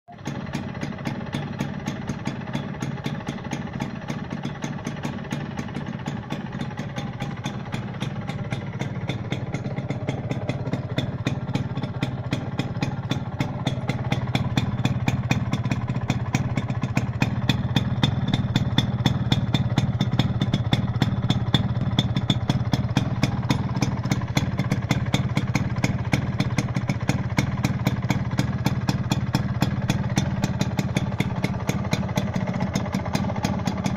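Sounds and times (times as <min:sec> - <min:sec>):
two-stroke engine idling: 0:00.1 - 0:33.9.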